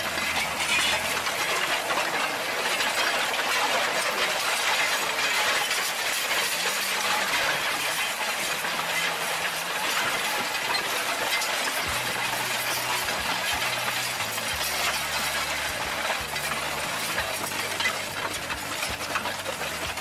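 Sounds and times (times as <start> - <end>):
seed drill grinding through stony soil: 0.0 - 20.0
stones and metal rattling: 0.0 - 20.0.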